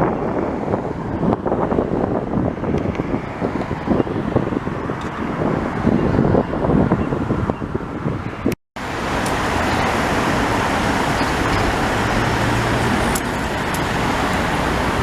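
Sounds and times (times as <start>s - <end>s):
steady engine roar: 0.0s - 15.0s.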